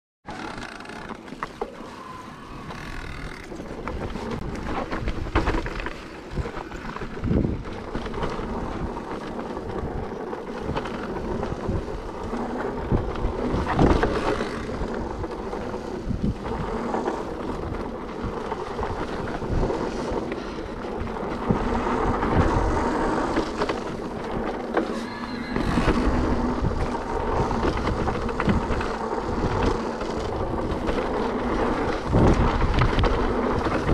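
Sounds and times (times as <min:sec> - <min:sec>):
bike rattling over bumps: 0:00.3 - 0:33.9
bike tyres on dirt trail: 0:00.3 - 0:33.9.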